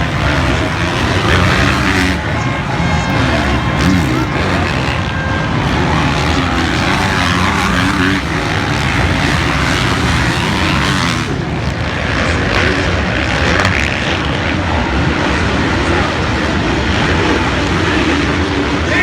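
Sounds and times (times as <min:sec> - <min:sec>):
motocross bike engine running hard: 0:00.0 - 0:19.0.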